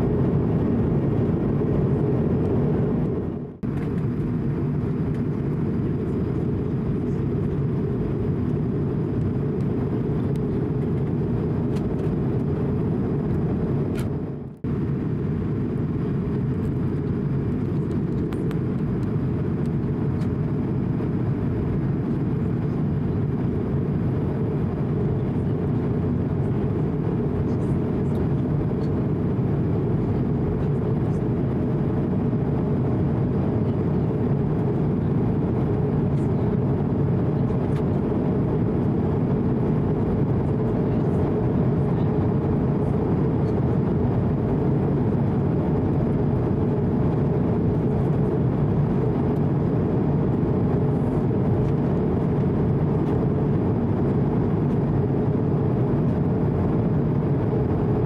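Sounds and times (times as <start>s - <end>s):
jet engine low rumble: 0.0s - 58.0s.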